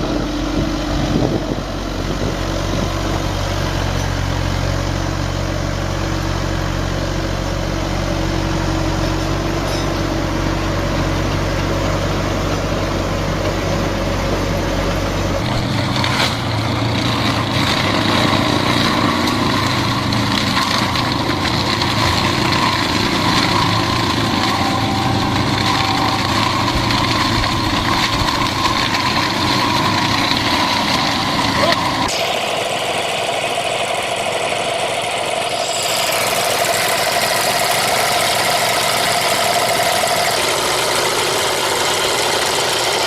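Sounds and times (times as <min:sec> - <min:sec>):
heavy farm machinery engine running: 0:00.0 - 0:43.0.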